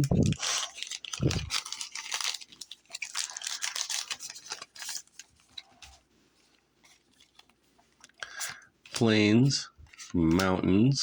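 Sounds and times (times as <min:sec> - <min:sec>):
cards rustling against each other: 0:00.0 - 0:10.6.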